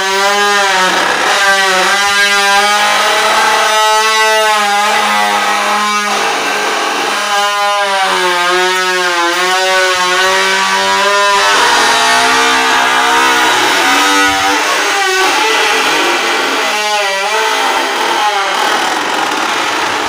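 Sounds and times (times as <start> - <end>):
wooden oil press squealing: 0.0 - 20.0.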